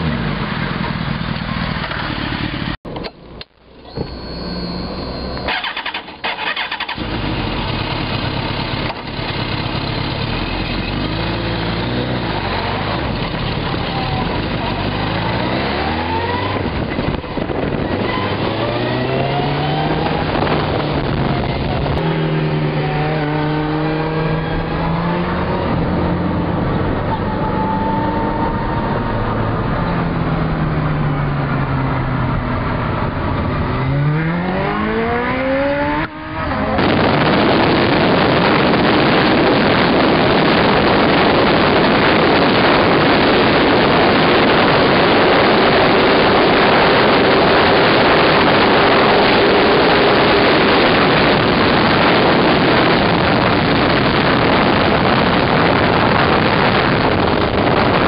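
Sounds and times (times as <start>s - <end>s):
motorcycle engine revving through gears: 0.0s - 58.0s
wind rushing over microphone: 11.1s - 58.0s.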